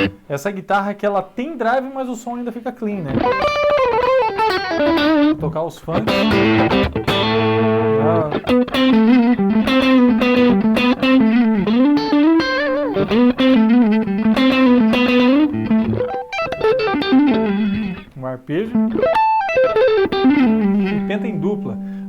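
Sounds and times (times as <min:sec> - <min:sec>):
overdriven electric guitar: 0:00.0 - 0:00.3, 0:03.1 - 0:22.0.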